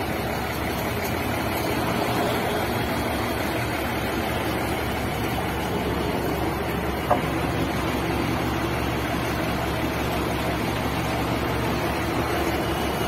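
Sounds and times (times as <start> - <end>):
heavy diesel engines under load: 0.0 - 13.0.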